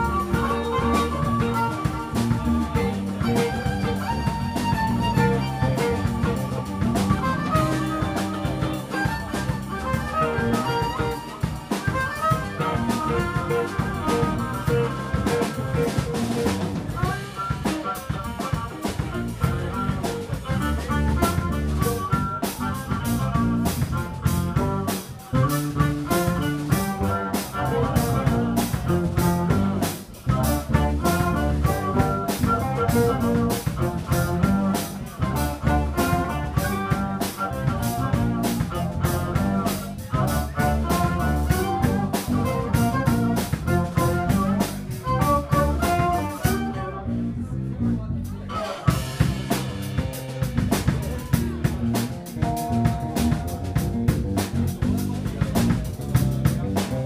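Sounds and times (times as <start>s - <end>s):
drum kit: 0.0s - 47.0s, 48.1s - 57.0s
electric guitar: 0.0s - 47.2s
violin: 0.0s - 47.6s
bass guitar: 0.0s - 57.0s
keyboards: 0.0s - 57.0s.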